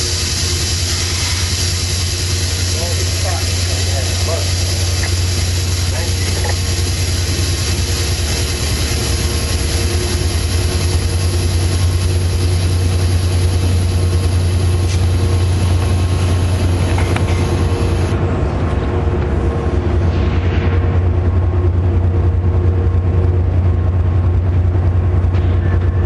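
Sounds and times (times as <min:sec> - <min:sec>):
locomotive diesel engine drone: 0:00.0 - 0:26.0.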